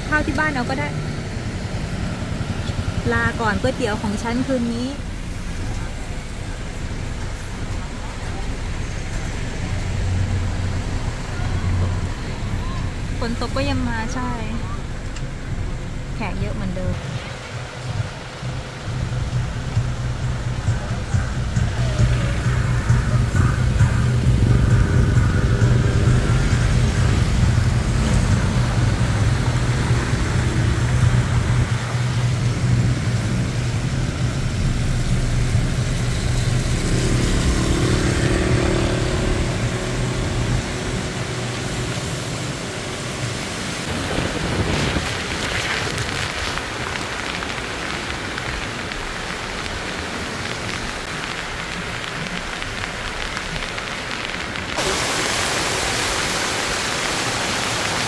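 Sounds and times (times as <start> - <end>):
car engine hum: 0.0 - 58.0
rain and tyres on wet road: 0.0 - 58.0.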